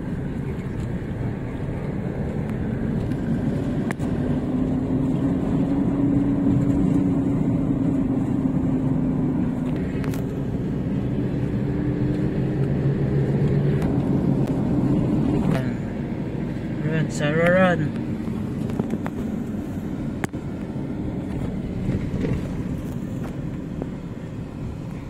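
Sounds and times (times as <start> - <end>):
car engine hum: 0.0 - 25.0.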